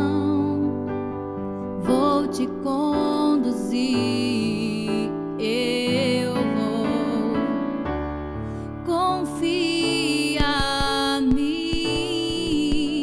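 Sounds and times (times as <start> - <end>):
woman singing worship song: 0.0 - 0.9, 1.8 - 7.6, 8.8 - 13.0.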